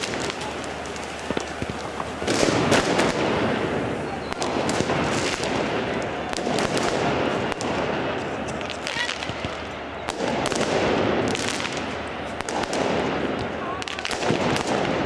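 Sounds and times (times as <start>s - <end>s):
firecrackers banging: 0.0s - 15.0s
large stadium crowd: 0.0s - 15.0s.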